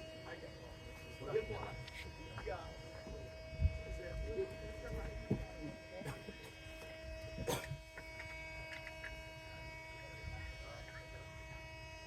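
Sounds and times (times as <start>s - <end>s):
steady tonal hum: 0.0s - 12.0s.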